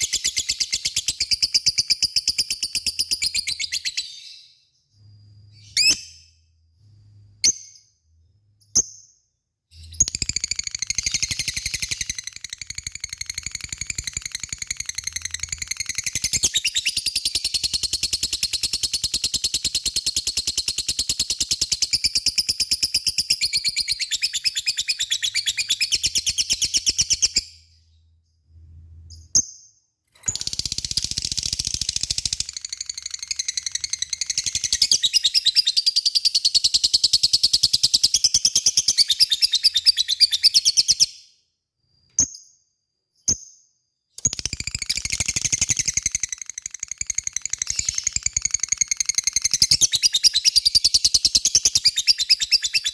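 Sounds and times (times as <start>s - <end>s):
bird chirps: 0.0s - 52.9s.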